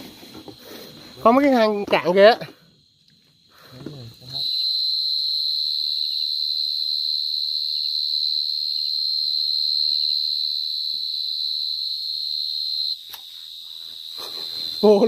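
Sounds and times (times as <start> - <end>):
cricket high trill: 0.0 - 15.0.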